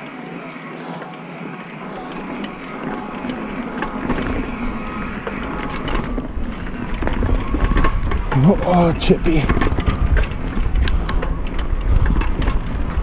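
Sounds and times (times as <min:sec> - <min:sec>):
bike clicks and rattles: 0:00.0 - 0:13.0
bike tyres rolling on trail: 0:00.0 - 0:13.0
wind rumble on microphone: 0:02.0 - 0:13.0.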